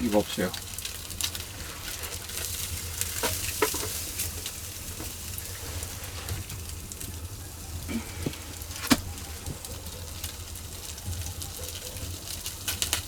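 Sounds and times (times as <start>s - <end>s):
embers crackling and popping: 0.0s - 13.0s
fish sizzling on a grill: 0.0s - 13.0s.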